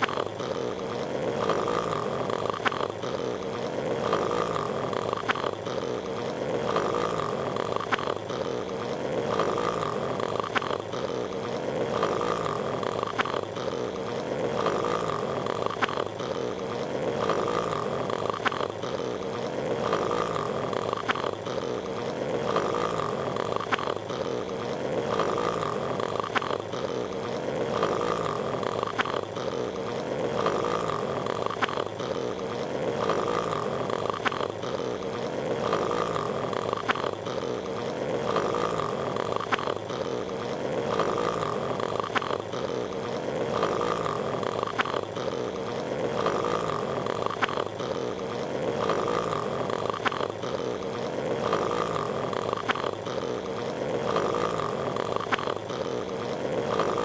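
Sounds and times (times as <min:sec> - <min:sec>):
cartoon snoring: 0:00.0 - 0:57.0.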